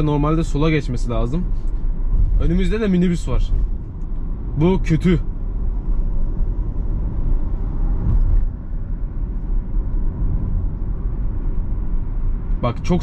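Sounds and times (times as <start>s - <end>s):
low road rumble inside car: 0.0s - 13.0s.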